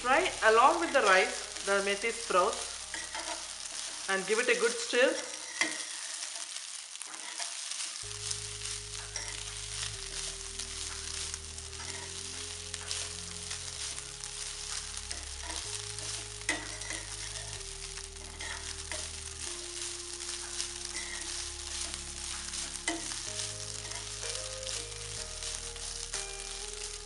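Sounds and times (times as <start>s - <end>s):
food sizzling in a hot pan: 0.0s - 27.0s
spatula scraping and tapping pan: 0.2s - 27.0s.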